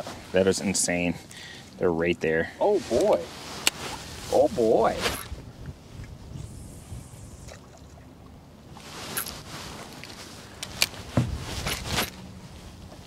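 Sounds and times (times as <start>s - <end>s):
low wind: 0.0s - 13.0s
water noise around boat: 0.0s - 13.0s.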